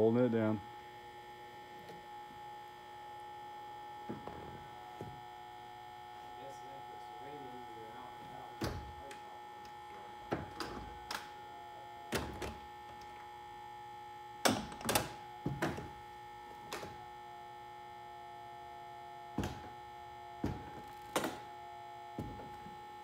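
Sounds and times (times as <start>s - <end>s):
hydraulic pump hum: 0.7s - 23.0s.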